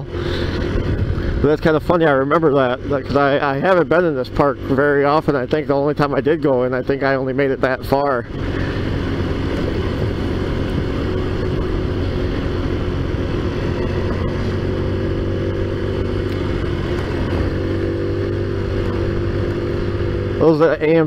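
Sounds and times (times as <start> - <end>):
scooter engine running: 0.0 - 21.0
wind and road noise: 0.0 - 21.0.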